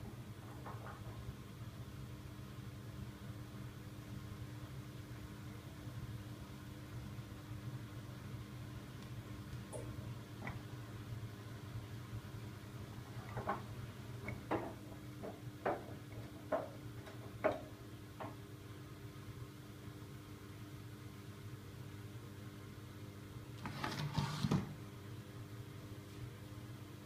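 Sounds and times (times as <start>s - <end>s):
washing machine motor hum: 0.0s - 25.7s.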